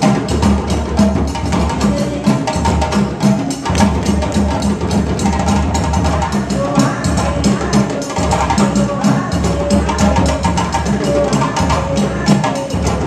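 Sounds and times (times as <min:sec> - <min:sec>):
hand drums playing dance rhythm: 0:00.0 - 0:13.0.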